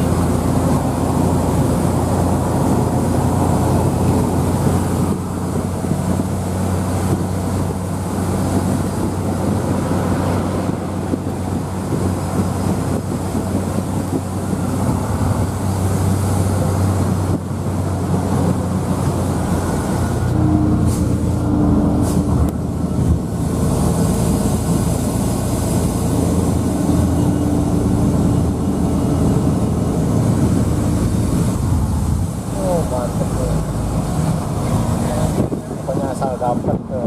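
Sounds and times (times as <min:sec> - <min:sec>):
vehicle engine drone and road noise: 0:00.0 - 0:37.0.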